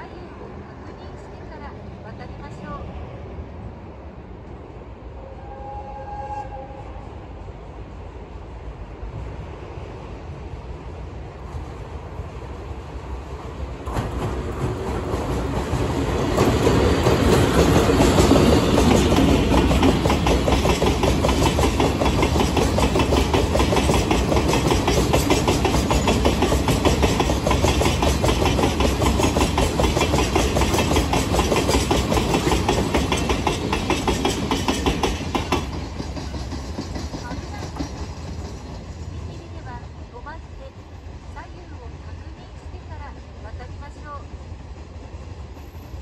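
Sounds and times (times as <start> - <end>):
electric locomotive passing: 0.0 - 46.0.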